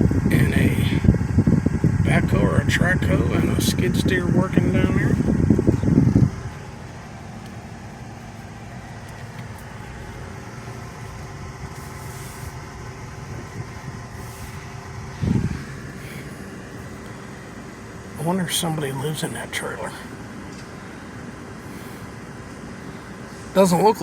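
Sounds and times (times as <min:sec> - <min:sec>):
vehicle engine and fan hum: 0:00.0 - 0:24.0.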